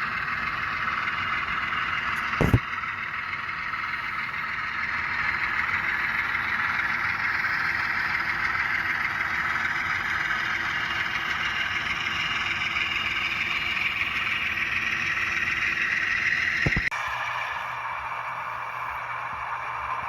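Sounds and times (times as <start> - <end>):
model train diesel engine sound: 0.0 - 20.0.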